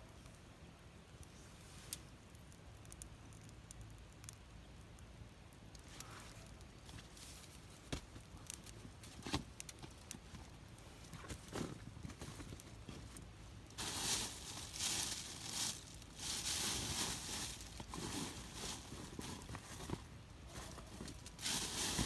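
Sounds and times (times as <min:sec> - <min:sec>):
campfire crackling: 0:02.2 - 0:22.0.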